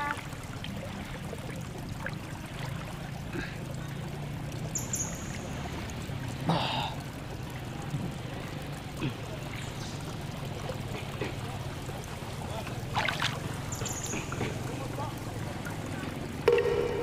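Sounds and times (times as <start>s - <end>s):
arm splashing water: 0.0s - 17.0s
water lapping and sloshing: 0.0s - 17.0s
steady low hum: 0.1s - 17.0s.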